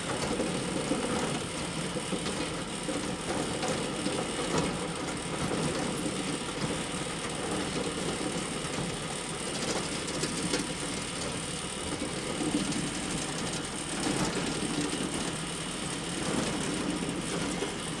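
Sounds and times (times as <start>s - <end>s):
conveyor mechanical rattle: 0.0s - 18.0s.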